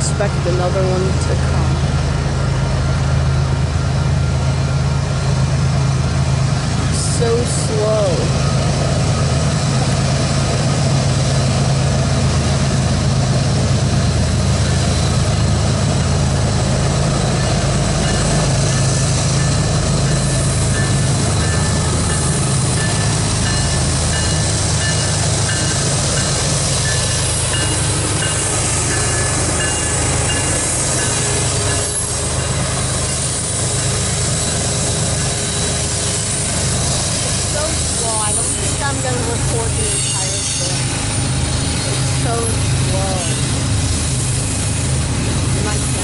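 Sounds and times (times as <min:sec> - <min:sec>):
locomotive engines rumbling: 0:00.0 - 0:46.0.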